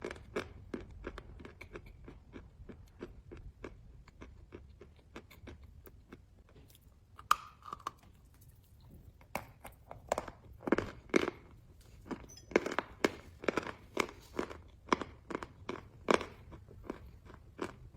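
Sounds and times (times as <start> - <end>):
chalk chewing crunches: 0.0 - 17.9.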